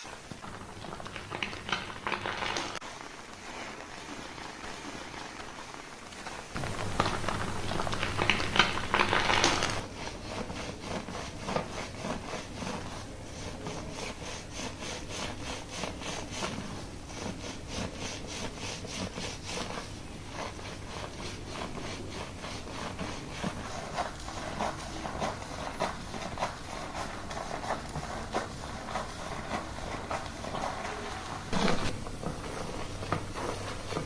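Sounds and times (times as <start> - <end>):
fingers scrubbing lathered hair: 0.0 - 34.0.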